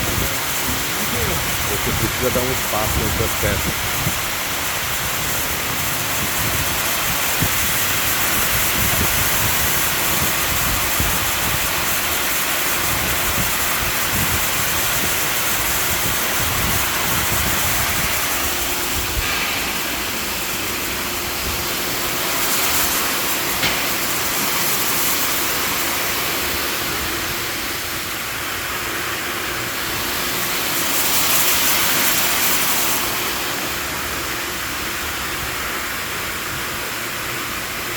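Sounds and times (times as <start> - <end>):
water jets spraying: 0.0 - 35.6.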